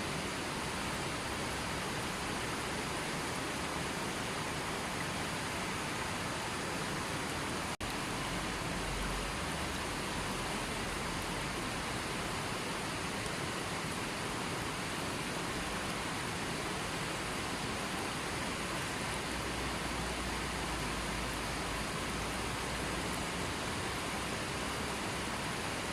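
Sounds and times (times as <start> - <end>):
water rushing: 0.0 - 25.9.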